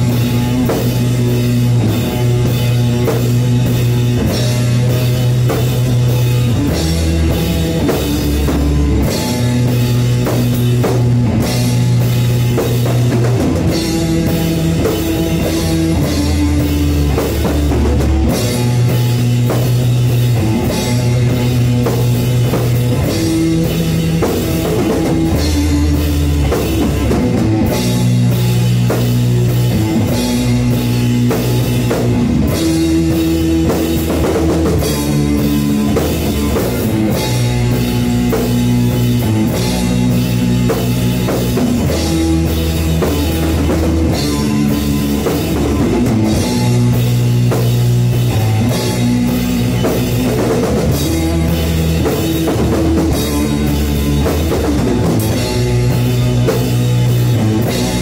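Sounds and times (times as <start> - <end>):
blues-rock guitar riff: 0.0 - 58.0
drum beats: 0.0 - 58.0.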